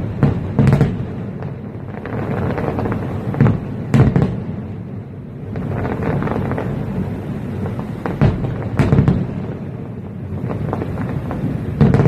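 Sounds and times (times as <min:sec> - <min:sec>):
fireworks bangs: 0:00.0 - 0:12.0
fireworks crackle and rumble: 0:00.0 - 0:12.0.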